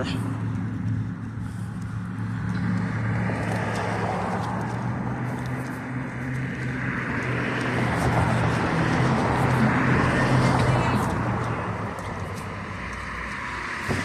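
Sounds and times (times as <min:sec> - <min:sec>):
car engines running: 0:00.0 - 0:14.0
tyre and road noise: 0:00.0 - 0:14.0
vehicle approaching: 0:00.0 - 0:14.0.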